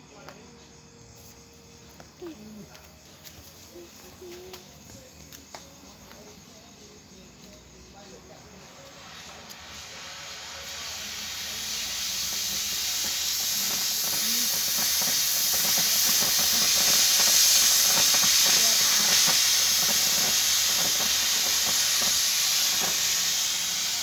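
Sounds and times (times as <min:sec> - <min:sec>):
steam hissing under pressure: 0:00.7 - 0:24.0.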